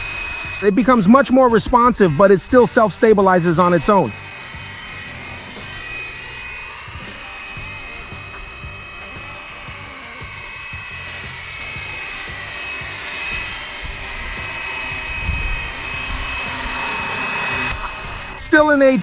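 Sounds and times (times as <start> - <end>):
high motor whine: 0.0 - 19.0
rotors whirring: 0.0 - 19.0.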